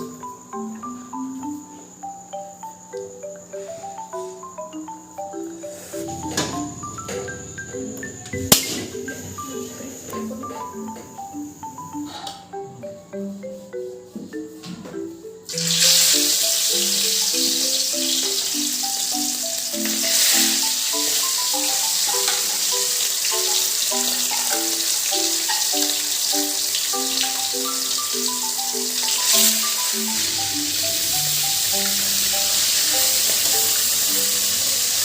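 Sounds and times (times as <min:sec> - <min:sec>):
cooking hiss: 0:00.0 - 0:35.0
marimba-like music: 0:00.0 - 0:35.0.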